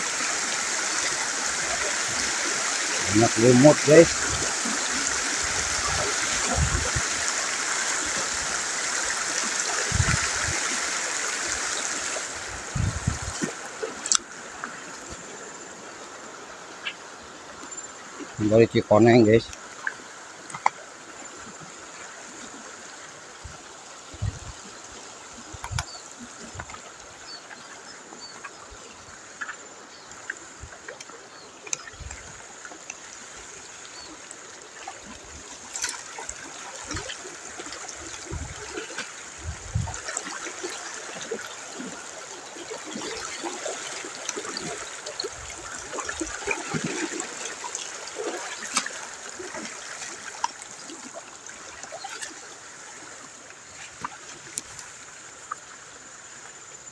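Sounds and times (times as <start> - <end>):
river water flowing: 0.0 - 56.9.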